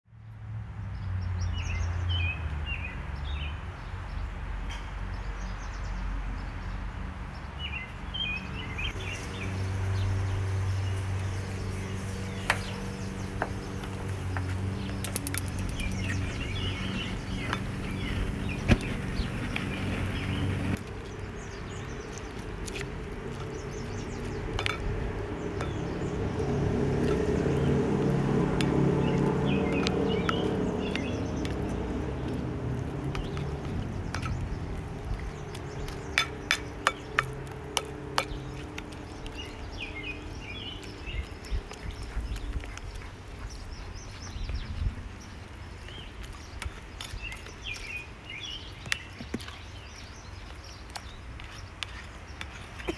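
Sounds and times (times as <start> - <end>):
birds chirping: 1.0 - 52.9.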